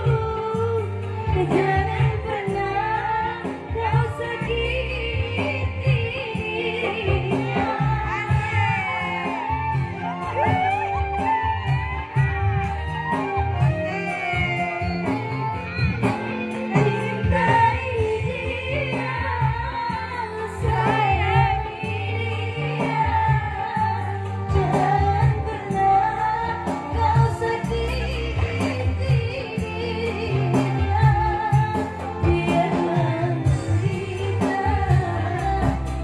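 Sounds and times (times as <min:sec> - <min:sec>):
amplified backing music with bass: 0:00.0 - 0:36.0
woman singing into a microphone: 0:00.0 - 0:36.0.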